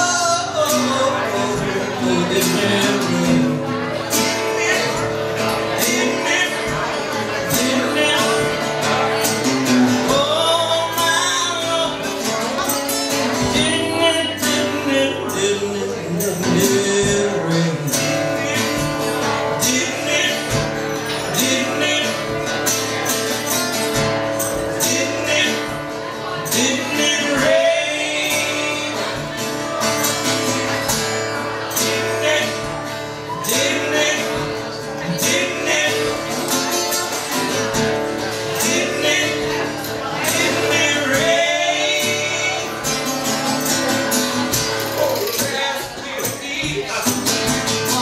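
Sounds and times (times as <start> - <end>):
man singing: 0.0 - 48.0
strummed acoustic guitar: 0.0 - 48.0.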